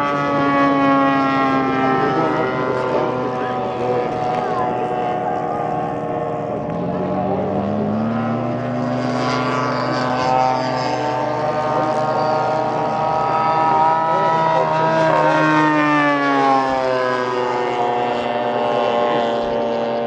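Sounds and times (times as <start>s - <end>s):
model airplane engine passing: 0.0s - 20.0s.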